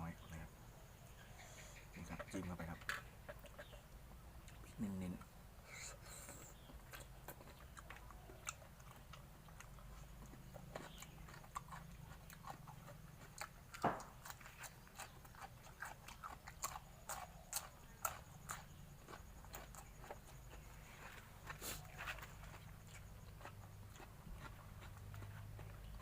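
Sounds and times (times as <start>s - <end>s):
person chewing and crunching: 2.0s - 26.0s.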